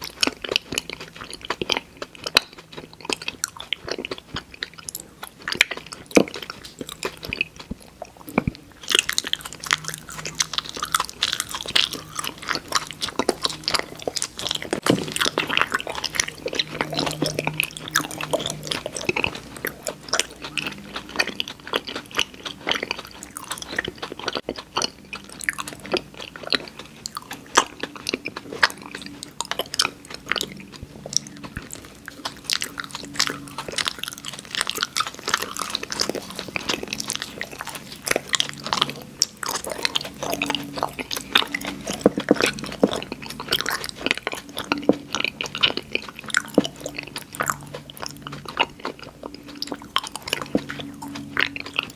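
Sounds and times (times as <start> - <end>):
crunching candy: 0.0 - 51.9
wet mouth clicks: 0.0 - 51.9.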